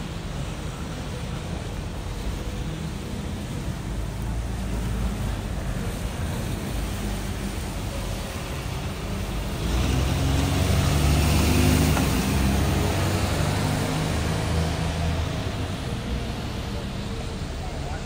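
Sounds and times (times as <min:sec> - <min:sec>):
bus engine running: 0:00.0 - 0:18.0
tyres hissing on wet road: 0:00.0 - 0:18.0.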